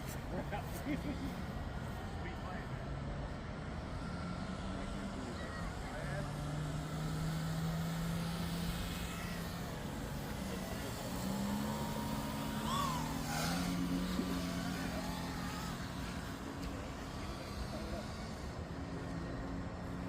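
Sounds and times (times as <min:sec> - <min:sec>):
model plane electric motor humming: 0:03.8 - 0:20.0.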